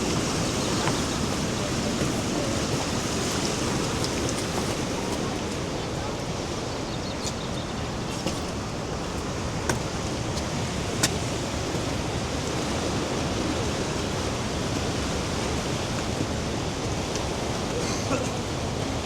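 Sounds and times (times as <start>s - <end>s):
waterfall rushing: 0.0s - 6.9s, 7.7s - 19.0s.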